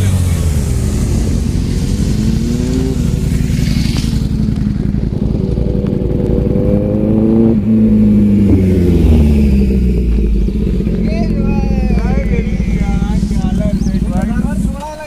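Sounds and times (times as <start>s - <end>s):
motorbike engine passing by: 0.0s - 15.0s.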